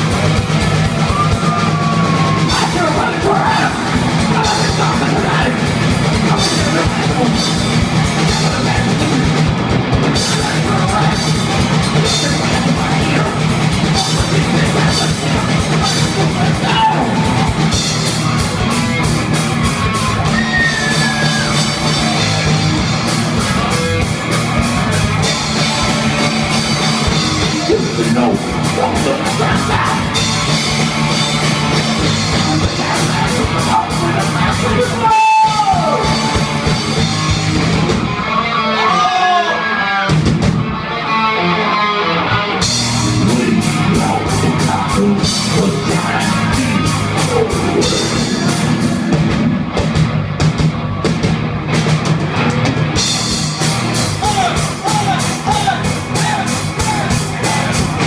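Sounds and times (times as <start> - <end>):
rapid drumming on drum kit: 0.0 - 38.1, 42.6 - 58.0
heavy metal band playing: 0.0 - 58.0.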